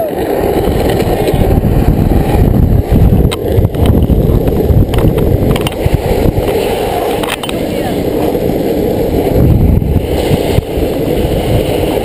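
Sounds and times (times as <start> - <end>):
wheels rolling on pavement: 0.0 - 12.0
wind on microphone: 0.0 - 12.0.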